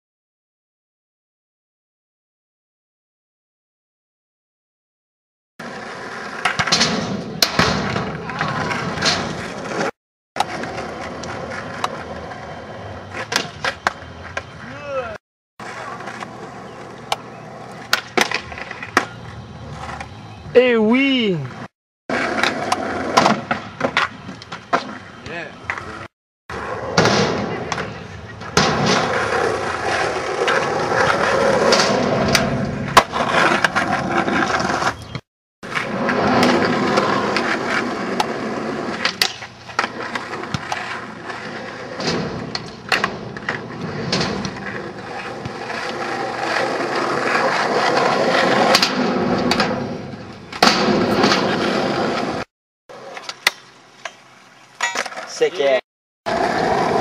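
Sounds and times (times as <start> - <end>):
skateboard wheels rolling on asphalt: 5.6 - 57.0.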